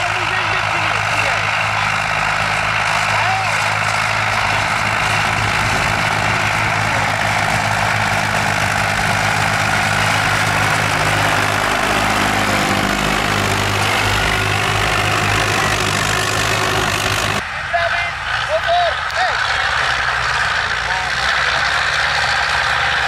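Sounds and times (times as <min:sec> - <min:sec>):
tractor diesel engines running: 0:00.0 - 0:23.0.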